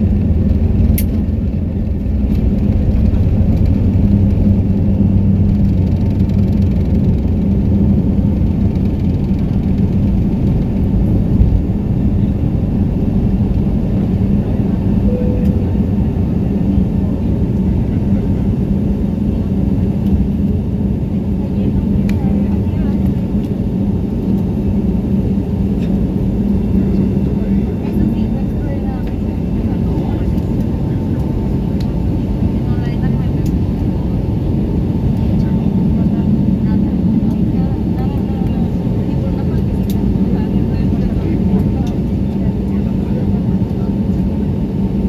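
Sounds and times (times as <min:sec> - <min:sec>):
airliner cabin engine rumble: 0:00.0 - 0:45.0.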